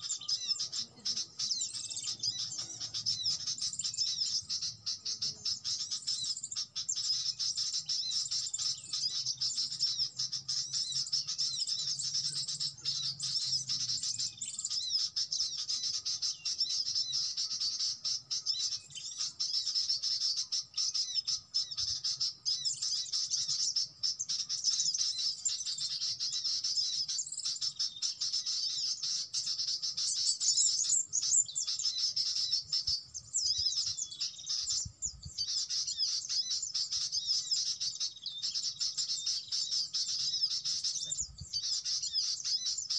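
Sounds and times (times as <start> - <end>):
small birds twittering: 0.0 - 42.9.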